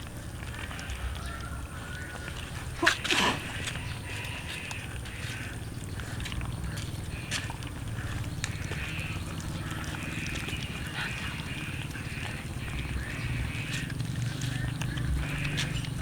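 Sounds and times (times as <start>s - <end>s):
cats chewing food: 0.0s - 16.0s.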